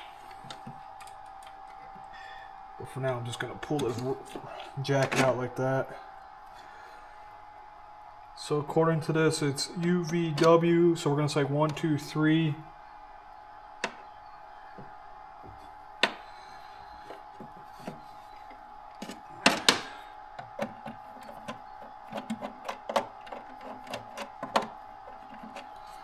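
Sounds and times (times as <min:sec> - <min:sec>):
faint high hum: 0:00.0 - 0:26.0.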